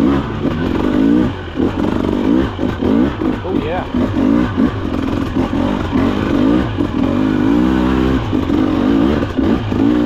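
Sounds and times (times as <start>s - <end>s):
two-stroke engine revving: 0.0s - 10.0s.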